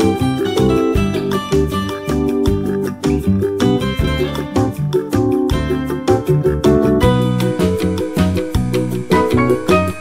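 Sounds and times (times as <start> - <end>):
instrumental music with plucked guitar: 0.0 - 10.0.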